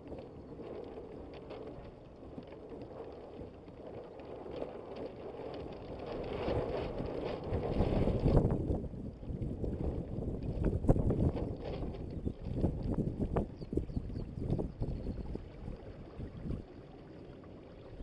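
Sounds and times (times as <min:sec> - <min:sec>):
water splashing along a hull: 0:00.0 - 0:18.0
wind buffeting the microphone: 0:00.0 - 0:18.0.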